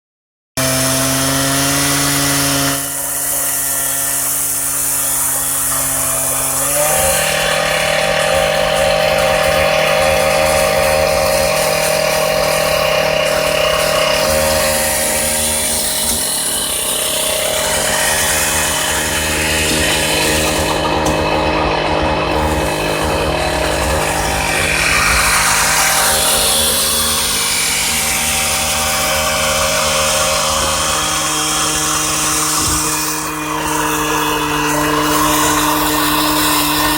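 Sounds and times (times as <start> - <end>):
wall saw cutting concrete: 0.6 - 36.9.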